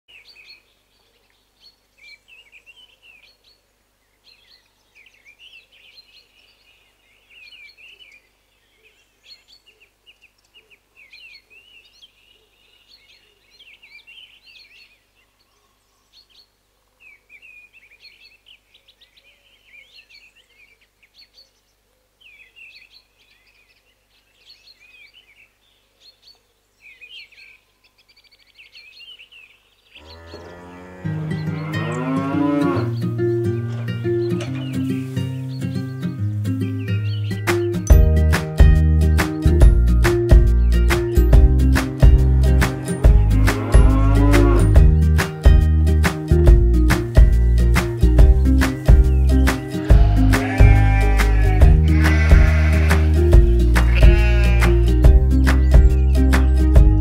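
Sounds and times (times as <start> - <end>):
songbirds chirping: 0.1 - 57.0.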